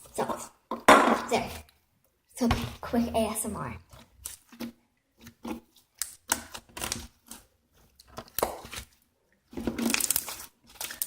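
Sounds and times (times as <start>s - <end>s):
slime squishing by hand: 0.0s - 11.0s.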